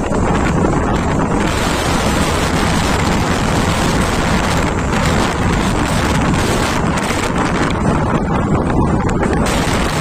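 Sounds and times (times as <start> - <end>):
wind buffeting microphone: 0.0 - 10.0
wind rushing through trees: 0.0 - 10.0.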